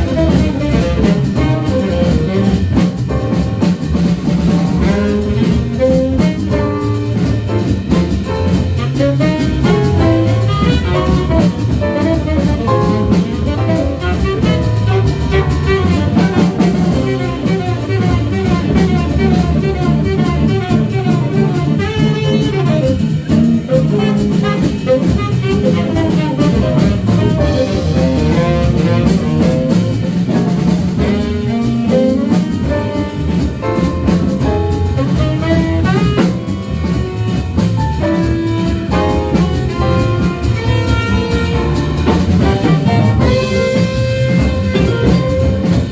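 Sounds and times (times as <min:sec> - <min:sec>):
bass: 0:00.0 - 0:45.9
drum kit: 0:00.0 - 0:45.9
saxophone fast melodic lines: 0:00.0 - 0:45.9.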